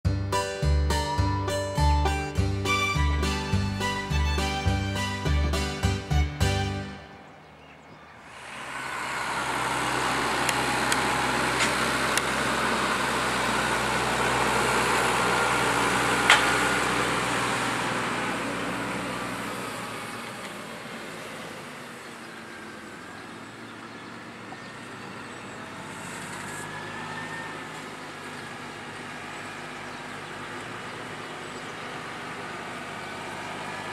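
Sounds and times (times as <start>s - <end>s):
tractor driving past: 0.0s - 33.9s.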